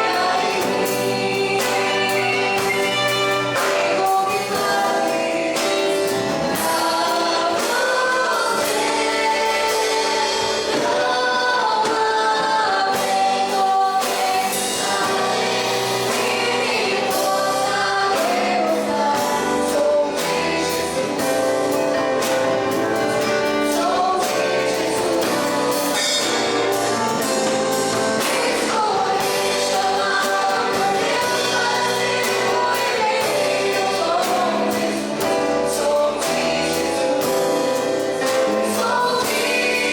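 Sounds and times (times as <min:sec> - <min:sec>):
group singing gospel song: 0:00.0 - 0:39.9
instrumental backing with beat: 0:00.0 - 0:39.9.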